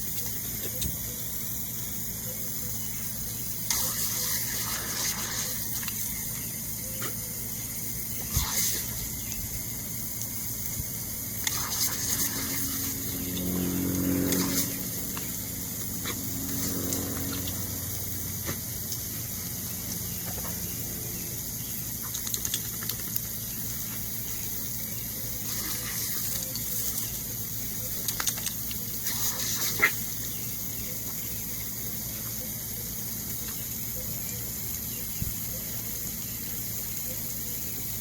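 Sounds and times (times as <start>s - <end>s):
lawn sprinkler hissing: 0.0s - 38.0s.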